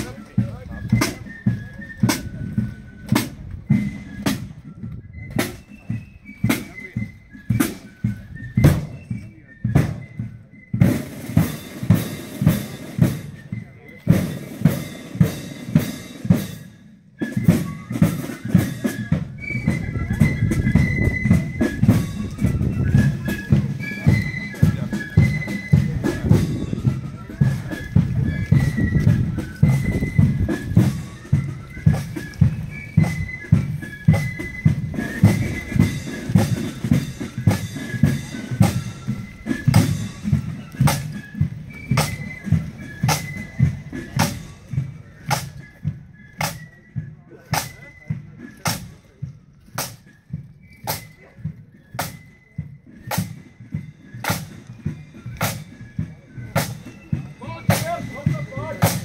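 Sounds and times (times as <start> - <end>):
marching band playing: 0.0 - 59.0
marching drum strokes: 0.0 - 59.0.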